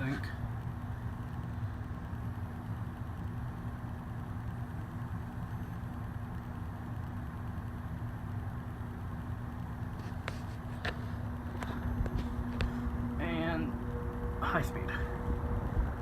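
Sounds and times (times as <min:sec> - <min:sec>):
ceiling fan running: 0:00.0 - 0:16.0.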